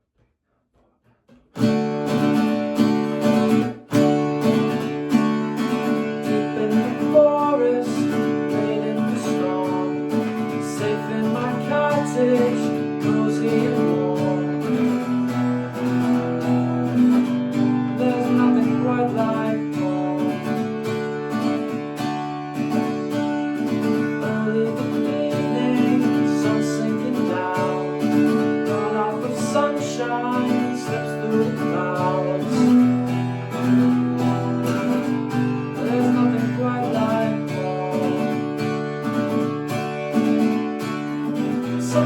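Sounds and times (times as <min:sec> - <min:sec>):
acoustic guitar strumming: 0:01.3 - 0:42.0.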